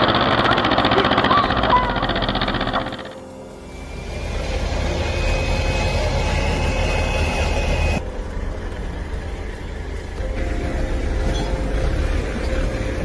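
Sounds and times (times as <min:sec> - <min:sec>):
faint steady whine: 0:00.0 - 0:13.0
tractor engine rumbling: 0:00.0 - 0:13.0.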